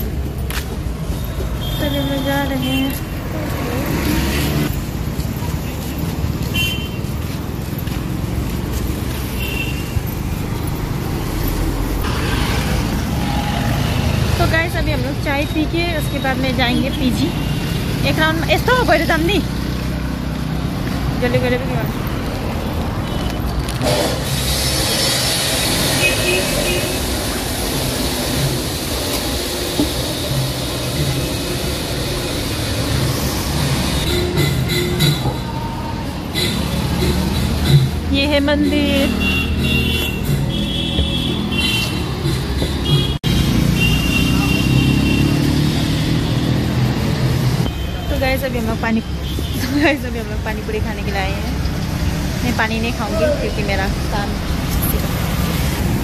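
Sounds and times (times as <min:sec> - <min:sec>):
passing cars rumbling: 0:00.0 - 0:56.0.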